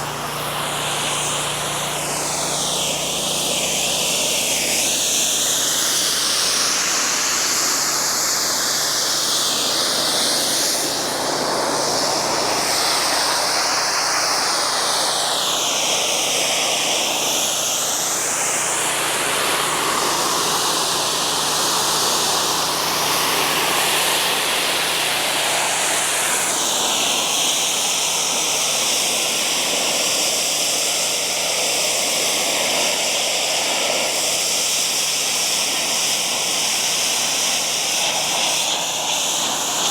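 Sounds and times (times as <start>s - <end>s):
pressure washer water hissing: 0.0s - 39.9s.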